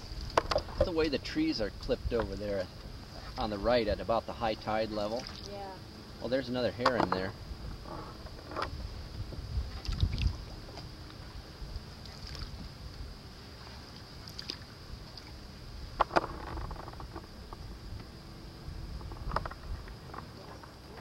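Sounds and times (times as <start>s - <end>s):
faint high whine: 0.0s - 21.0s
paddle in water: 0.0s - 21.0s.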